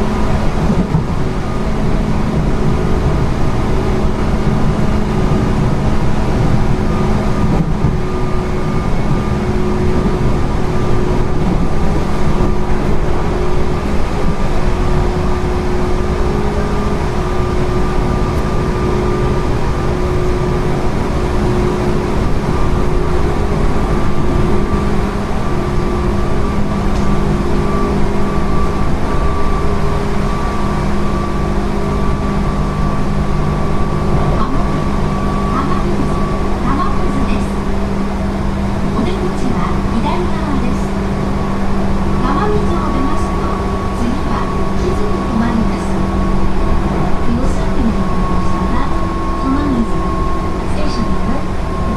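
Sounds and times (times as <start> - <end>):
train motor and gear whine: 0.0 - 51.9
wheel and track rumble: 0.0 - 51.9.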